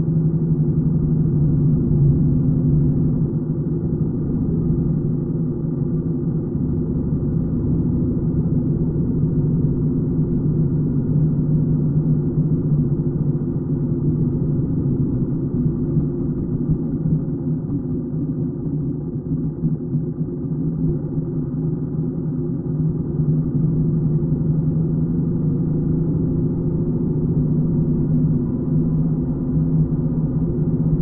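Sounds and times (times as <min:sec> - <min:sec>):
motorcycle engine running steadily: 0:00.0 - 0:31.0.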